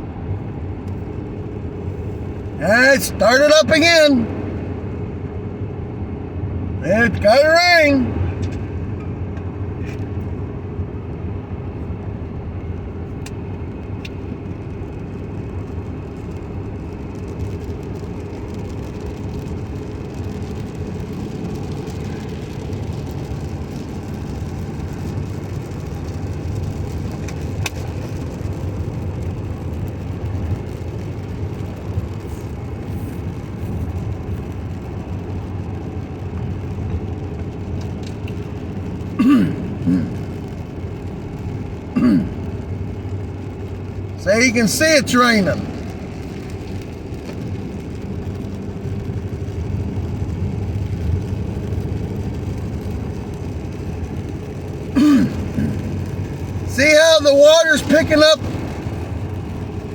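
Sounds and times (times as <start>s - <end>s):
car engine hum: 0.0s - 59.9s
tyre noise on wet road: 0.0s - 59.9s.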